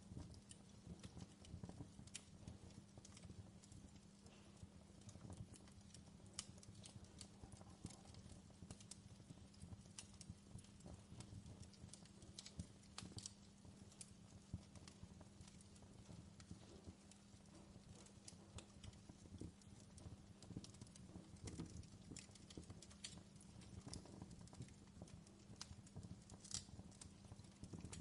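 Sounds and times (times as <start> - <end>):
fire crackling in a fireplace: 0.0 - 28.0.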